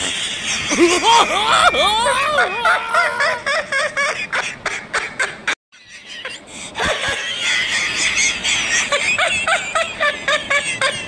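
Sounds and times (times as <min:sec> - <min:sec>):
person laughing: 0:00.1 - 0:11.0.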